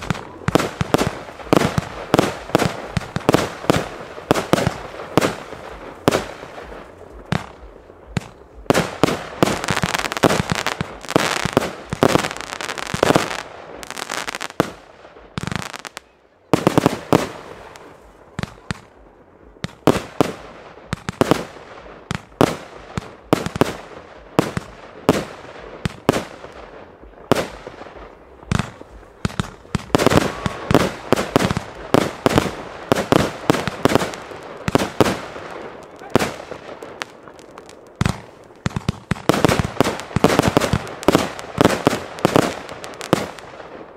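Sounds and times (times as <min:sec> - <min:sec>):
fireworks crackling: 0:00.0 - 0:43.9.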